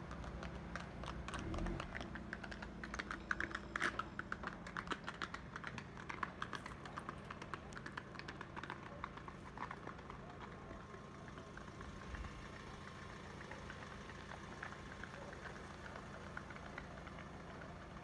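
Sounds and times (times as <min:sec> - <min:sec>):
horse hooves on cobblestones: 0:00.0 - 0:18.0.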